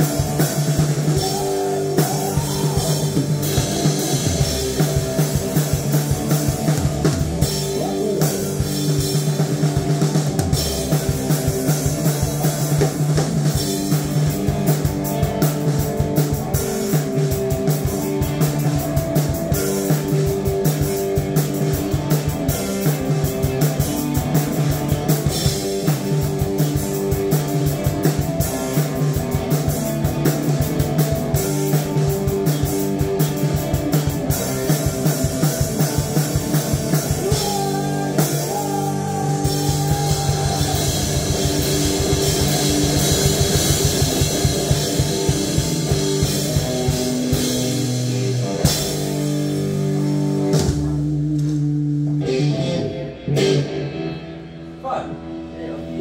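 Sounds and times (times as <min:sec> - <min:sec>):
fast drumming: 0:00.0 - 0:51.3
electric guitar chords: 0:00.0 - 0:56.0.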